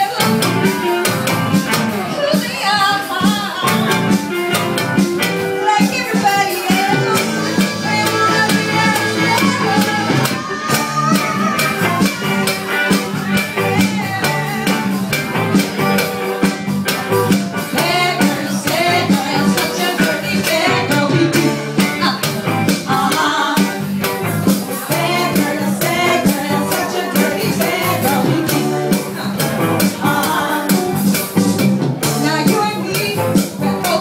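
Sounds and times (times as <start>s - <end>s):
bass line: 0.0s - 34.0s
upbeat music: 0.0s - 34.0s.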